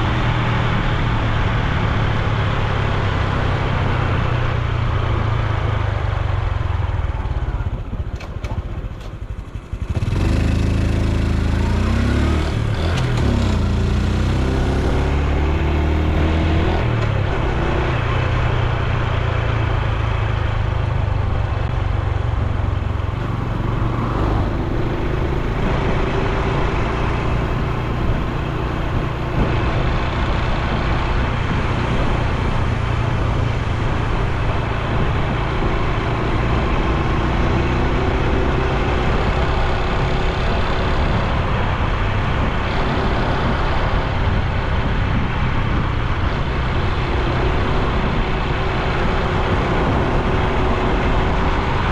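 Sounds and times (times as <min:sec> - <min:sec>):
motorcycle engine while riding: 0:00.0 - 0:51.9
road noise: 0:00.0 - 0:51.9
rushing wind: 0:00.0 - 0:51.9.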